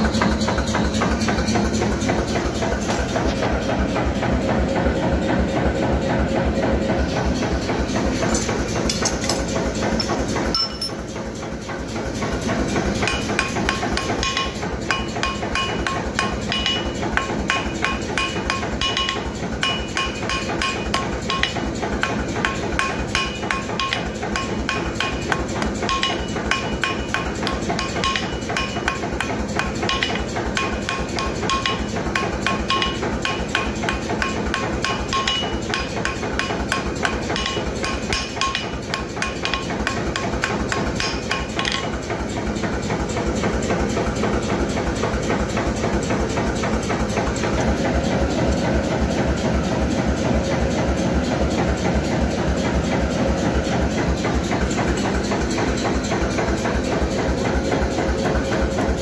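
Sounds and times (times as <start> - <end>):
hammer striking metal on anvil: 0.0 - 4.8, 7.1 - 59.0.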